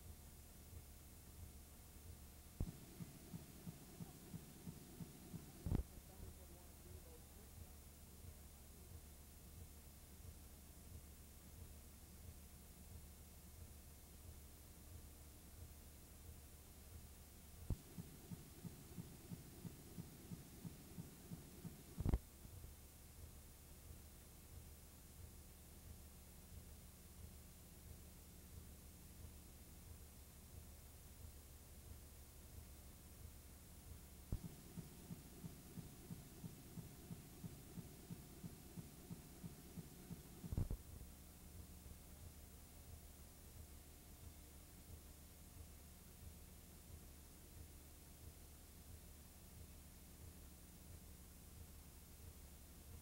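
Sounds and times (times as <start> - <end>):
soft low thumps: 0.0 - 53.0
tape hiss and hum: 0.0 - 53.0.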